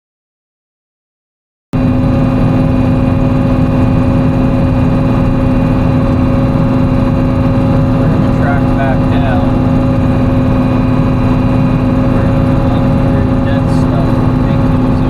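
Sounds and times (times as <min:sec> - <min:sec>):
diesel engine humming: 0:01.8 - 0:15.0.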